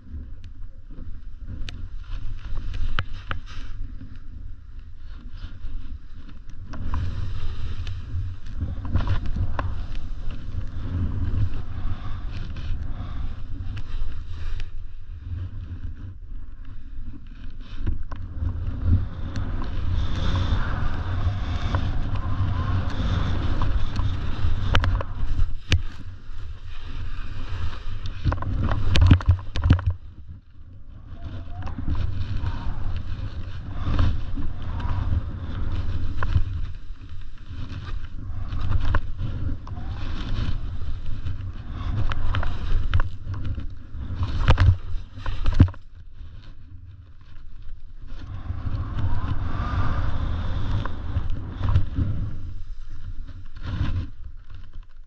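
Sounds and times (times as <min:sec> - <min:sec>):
wind rumble on microphone: 0:00.0 - 0:55.0
skis scraping through snow: 0:00.9 - 0:55.0.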